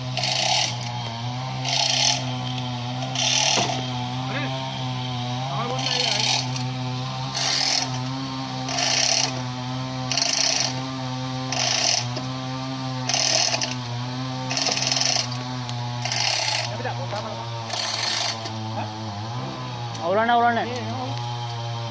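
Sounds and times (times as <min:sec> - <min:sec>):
tractor engine running: 0:00.0 - 0:21.9.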